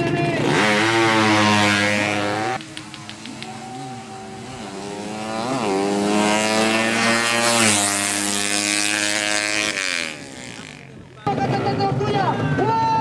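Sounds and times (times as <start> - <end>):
motorcycle engine at full throttle: 0.0 - 11.7.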